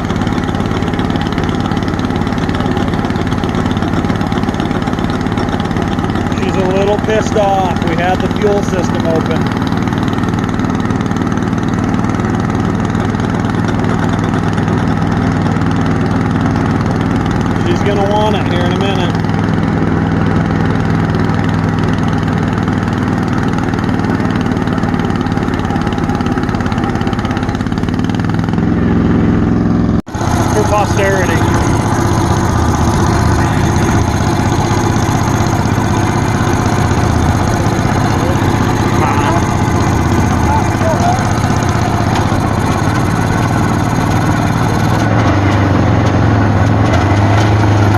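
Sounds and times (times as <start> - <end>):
pony motor cranking diesel engine: 0.0 - 47.9.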